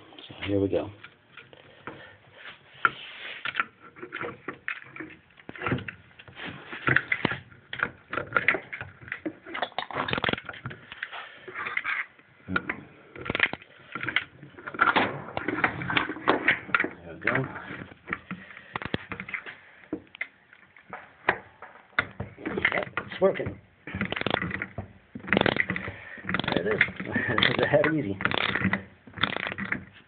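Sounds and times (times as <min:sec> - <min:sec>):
hand tools clicking and scraping: 0:00.3 - 0:30.0.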